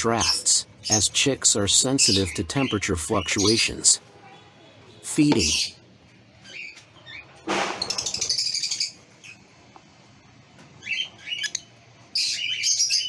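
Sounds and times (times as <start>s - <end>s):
lovebirds chirping and squawking: 0.0s - 13.0s.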